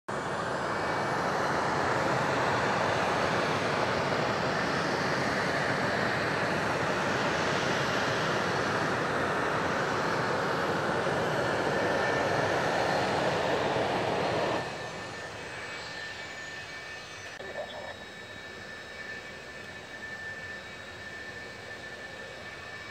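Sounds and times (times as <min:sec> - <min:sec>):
jet engines rushing with whine: 0:00.1 - 0:22.9.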